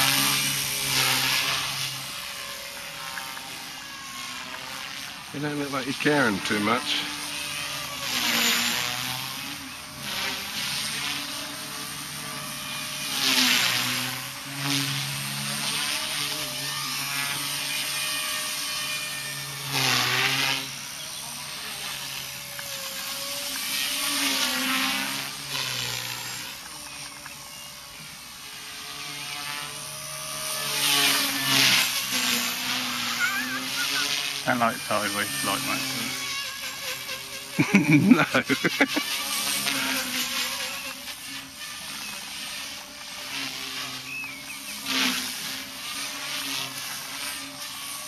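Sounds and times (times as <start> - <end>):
rc helicopter motor whine: 0.0 - 48.0.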